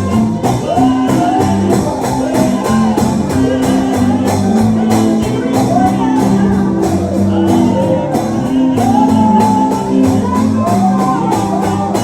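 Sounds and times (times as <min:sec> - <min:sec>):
gospel band with guitar and beat: 0:00.0 - 0:12.0
voices singing: 0:00.0 - 0:12.0.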